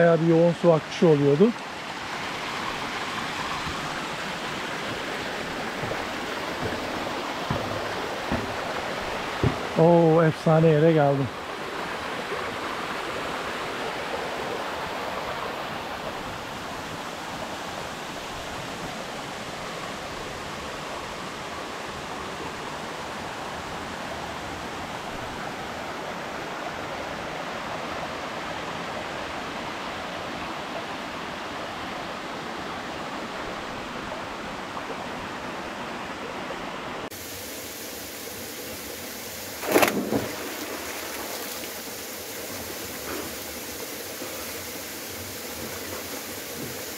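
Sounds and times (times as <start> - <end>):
waterfall rushing water: 0.0 - 46.9.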